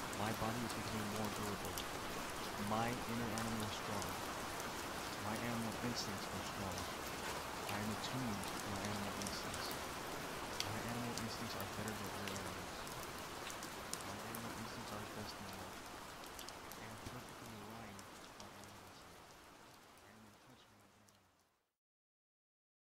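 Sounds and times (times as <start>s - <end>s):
sharp raindrop ticks: 0.0s - 21.5s
rain falling steadily: 0.0s - 21.7s.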